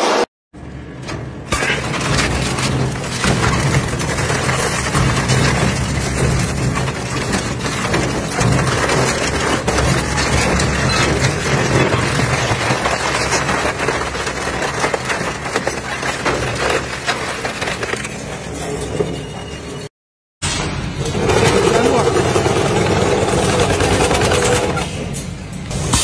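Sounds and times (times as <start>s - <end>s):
shredder crushing metal: 0.8s - 19.8s, 20.4s - 26.0s.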